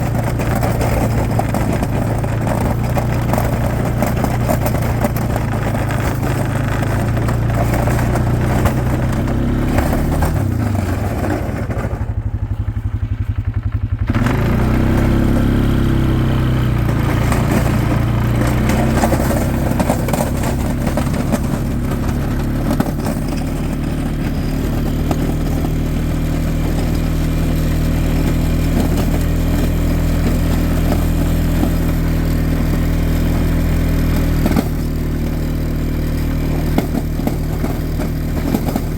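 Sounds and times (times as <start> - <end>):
atv engine revving under load: 0.0 - 38.9.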